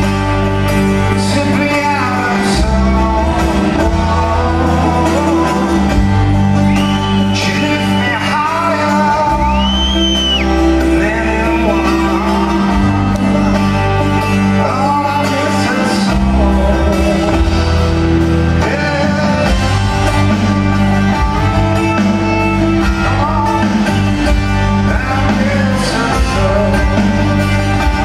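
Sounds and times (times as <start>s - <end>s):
electric guitars: 0.0s - 28.0s
sustained bass notes: 0.0s - 28.0s
person singing lead vocal: 0.7s - 20.8s, 22.6s - 28.0s.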